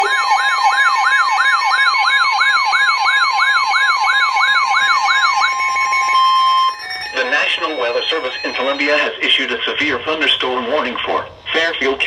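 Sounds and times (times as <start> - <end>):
fast high beeping: 0.0 - 2.9, 4.4 - 12.0
steady high tone: 0.0 - 3.2, 4.5 - 12.0
electronic siren sweep: 0.0 - 11.6.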